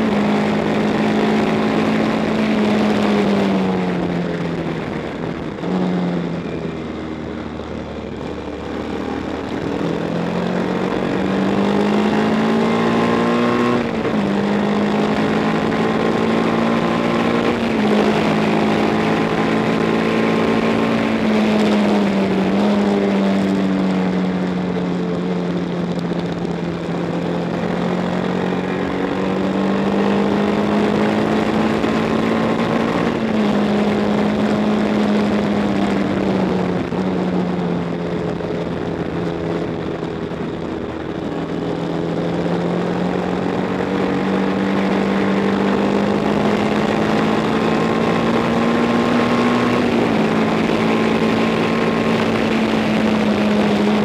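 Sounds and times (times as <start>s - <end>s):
racing motorcycle engine: 0.0s - 54.0s.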